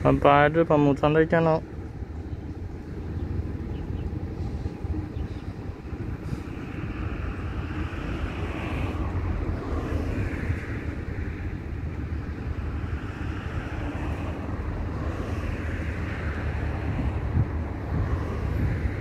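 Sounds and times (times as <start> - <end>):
passing road traffic hiss: 0.0 - 19.0
wind rumbling on microphone: 0.0 - 19.0.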